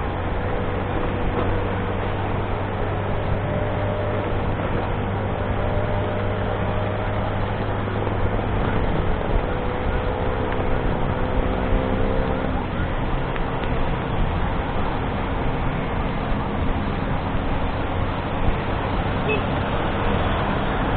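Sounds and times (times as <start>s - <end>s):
motorcycle engine hum: 0.0s - 20.9s
surrounding traffic: 0.0s - 20.9s
wind and road noise: 0.0s - 20.9s.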